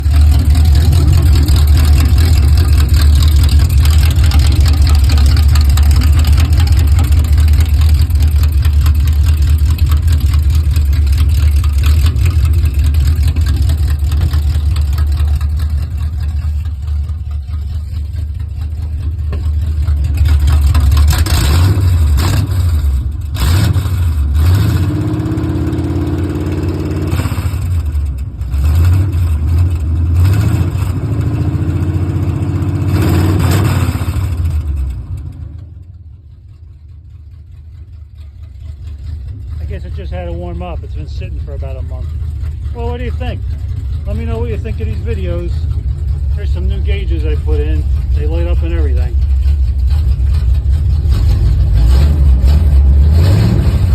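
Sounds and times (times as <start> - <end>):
car engine idling: 0.0 - 53.9
engine throttle blips: 0.0 - 53.9.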